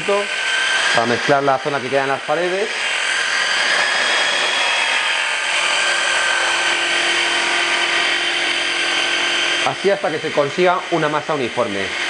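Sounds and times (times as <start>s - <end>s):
electric hand blender whining: 0.0s - 12.0s.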